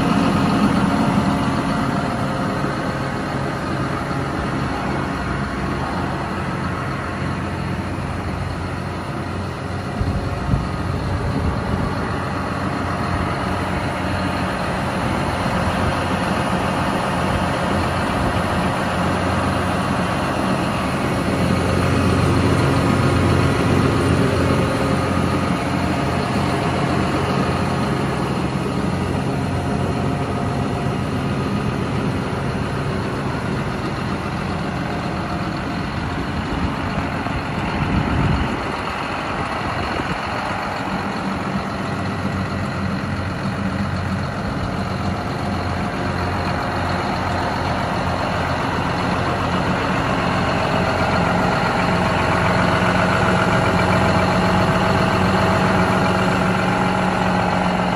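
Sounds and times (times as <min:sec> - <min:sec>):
tractor diesel engine idling: 0:00.0 - 0:57.9.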